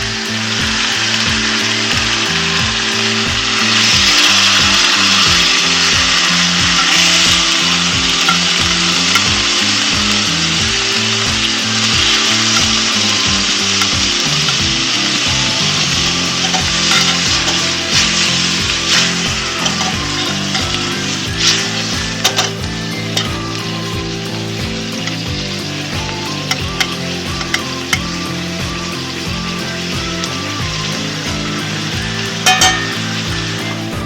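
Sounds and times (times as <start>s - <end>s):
background music with beat: 0.0s - 34.0s
food sizzling in a pan: 0.0s - 34.0s.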